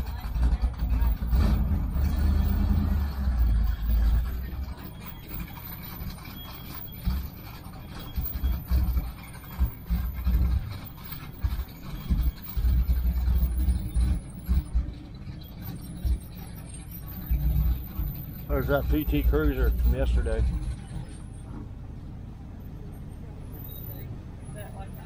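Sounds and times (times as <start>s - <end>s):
car engine and exhaust rumble: 0.0s - 25.0s.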